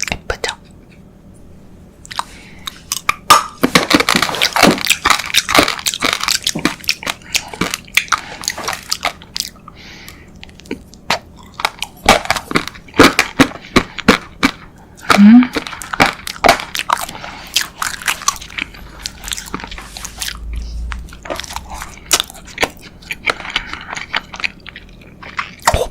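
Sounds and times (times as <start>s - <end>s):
biting and chewing dessert: 2.0s - 25.9s.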